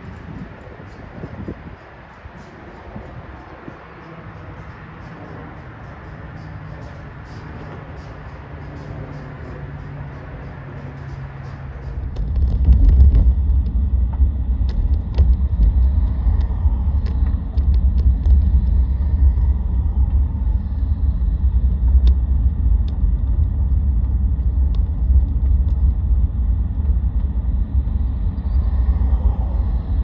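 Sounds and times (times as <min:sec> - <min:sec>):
car driving slowly rumble: 0:00.0 - 0:30.0.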